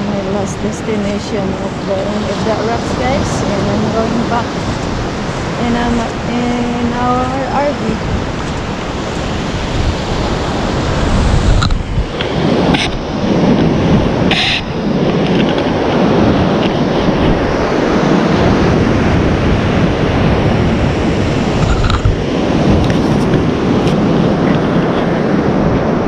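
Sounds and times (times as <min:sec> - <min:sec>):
ocean surf breaking on beach: 0:00.0 - 0:26.0
wind buffeting microphone: 0:00.0 - 0:26.0.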